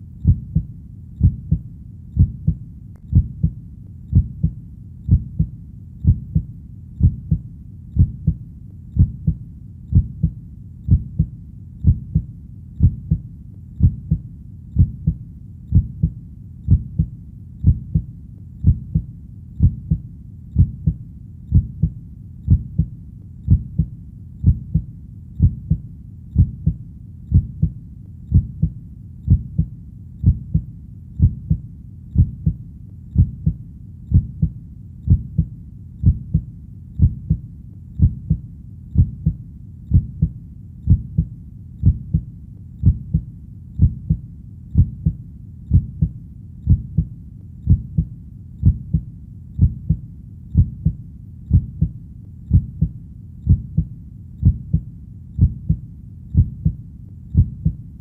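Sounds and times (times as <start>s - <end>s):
heartbeat thumps: 0.0s - 8.4s, 9.0s - 57.9s.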